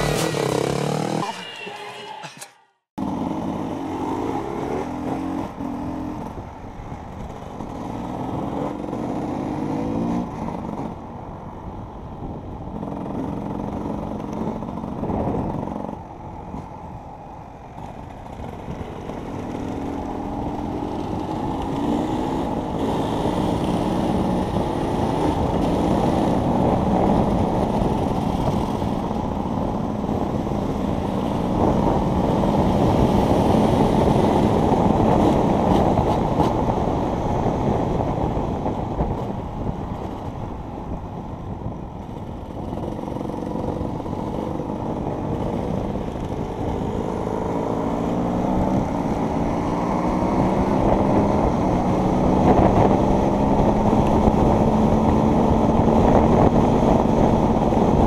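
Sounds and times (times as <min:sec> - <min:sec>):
motorcycle engine revving: 0:00.0 - 0:06.5, 0:07.2 - 0:11.0, 0:12.7 - 0:16.2, 0:17.8 - 0:40.5, 0:41.8 - 0:58.0.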